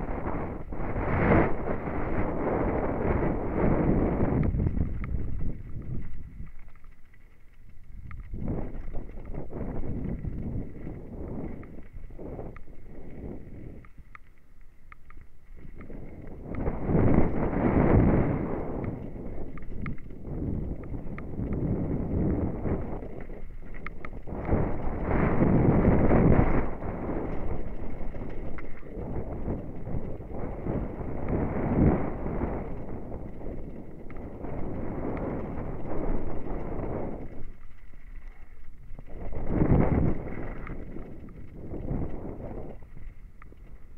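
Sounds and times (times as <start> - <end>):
wind on microphone: 0.0 - 7.0, 7.7 - 43.9
bike rattle: 0.0 - 43.9
bike tyres rumbling on gravel: 0.0 - 43.9
light clicks: 4.3 - 43.9.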